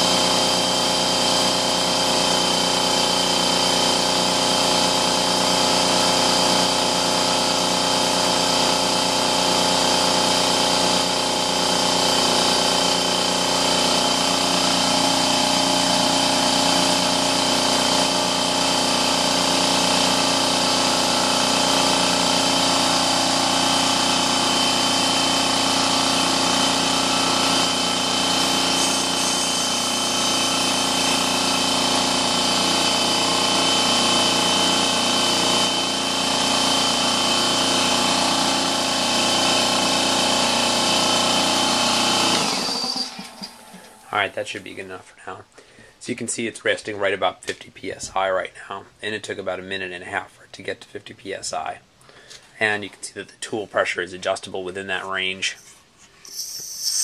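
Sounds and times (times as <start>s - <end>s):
air compressor running: 0.0s - 44.7s, 55.5s - 57.0s.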